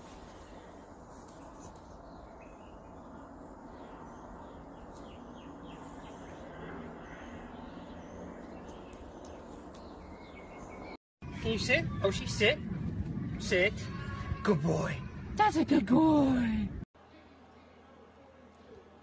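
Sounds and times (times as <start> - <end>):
birds chirping: 0.0 - 16.3.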